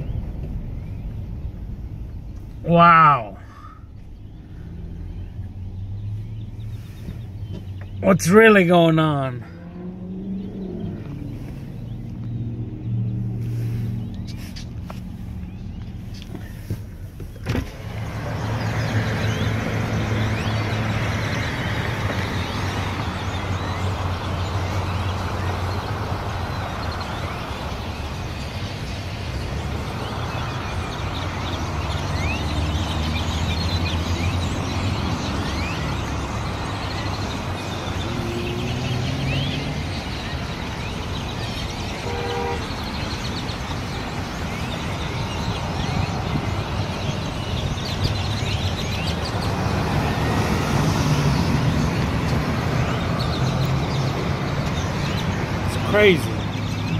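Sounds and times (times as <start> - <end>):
car engine humming: 0.0 - 56.9
flock of birds chirping: 0.0 - 56.9
road traffic: 0.0 - 56.9.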